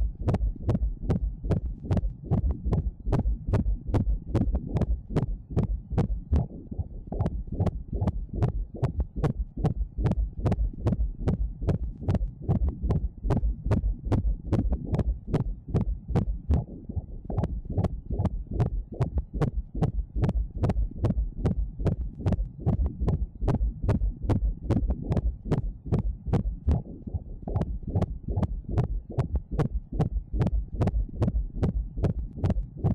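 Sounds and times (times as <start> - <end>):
fetal heartbeat on doppler: 0.0 - 32.9.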